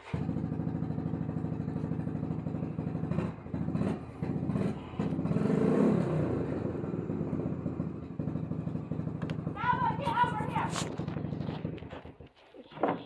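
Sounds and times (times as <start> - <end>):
engine idling: 0.0 - 12.3.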